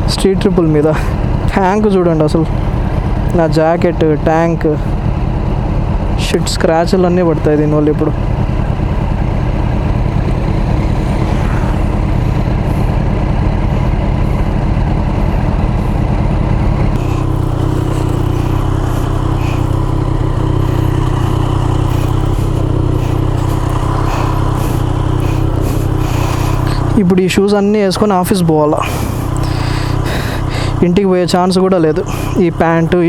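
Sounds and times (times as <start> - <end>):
motorcycle engine running: 0.0 - 33.0
road and wind noise: 0.0 - 33.0.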